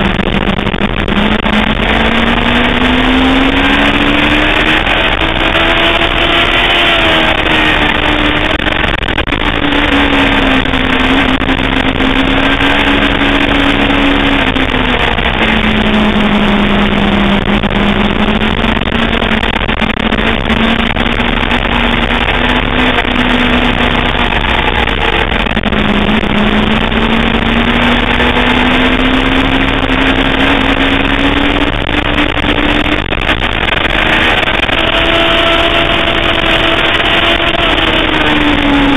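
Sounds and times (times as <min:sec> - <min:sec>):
motorcycle engine revving: 0:00.0 - 0:38.9
wind rush: 0:00.0 - 0:38.9.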